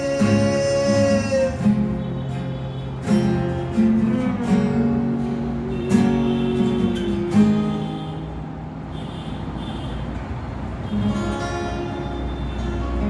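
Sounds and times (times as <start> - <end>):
acoustic guitar strummed: 0.0 - 9.2, 10.9 - 13.0.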